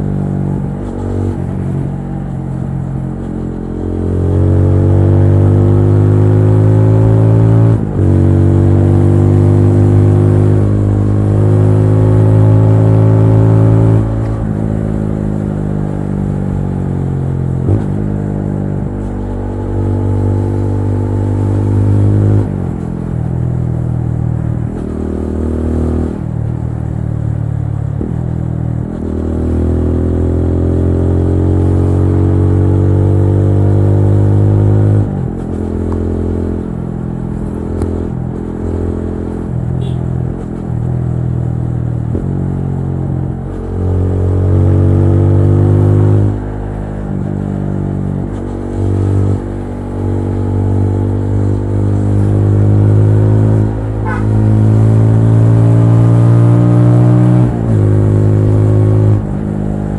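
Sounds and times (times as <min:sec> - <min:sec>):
motorcycle engine revving: 0:00.0 - 0:26.8, 0:27.8 - 0:59.9.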